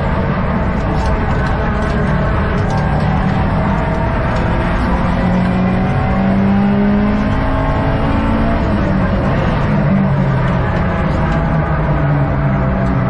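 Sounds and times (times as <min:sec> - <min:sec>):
car engine revving under load: 0:00.0 - 0:13.0.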